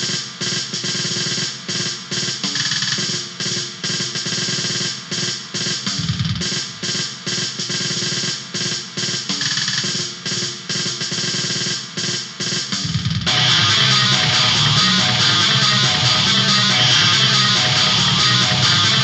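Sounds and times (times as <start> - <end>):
snare drum: 0.0 - 19.0.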